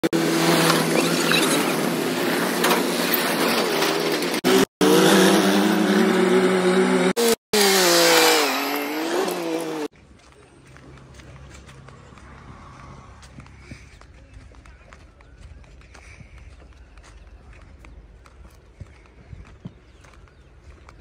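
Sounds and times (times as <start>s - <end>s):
heavy diesel engines under load: 0.0s - 21.0s.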